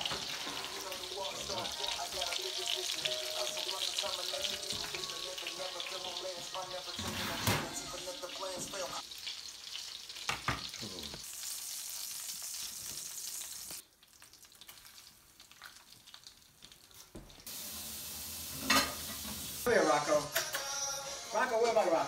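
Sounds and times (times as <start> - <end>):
chicken sizzling in a frying pan: 0.0 - 20.2.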